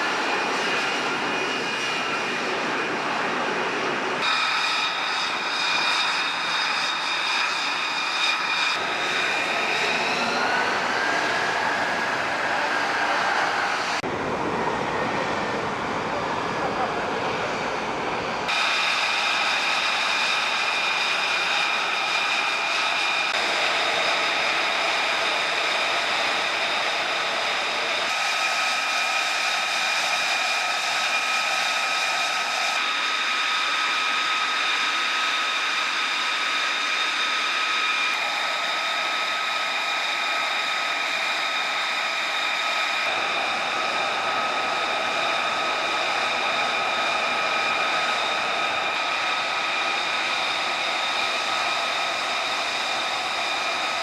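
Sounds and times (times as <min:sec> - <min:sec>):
jet engine running: 0:00.0 - 0:54.0.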